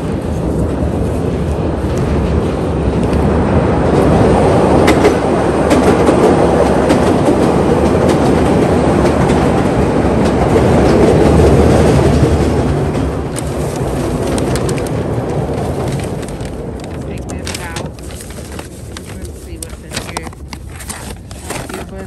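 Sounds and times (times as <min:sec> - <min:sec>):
train rumbling past: 0:00.0 - 0:22.0
wheels clacking over rail joints: 0:00.0 - 0:22.0.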